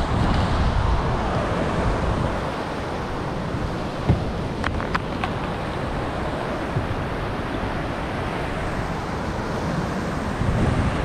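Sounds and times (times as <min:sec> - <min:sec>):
water rushing over rocks: 0:00.0 - 0:11.0
wind buffeting microphone: 0:00.0 - 0:11.0.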